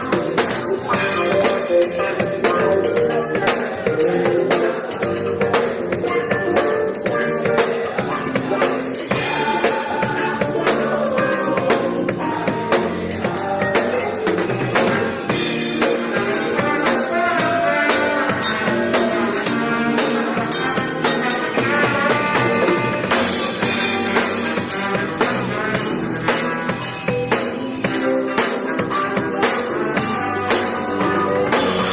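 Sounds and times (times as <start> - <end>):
drum kit beat: 0.0 - 31.9
praise band playing gospel song: 0.0 - 31.9
tambourine: 0.0 - 31.9.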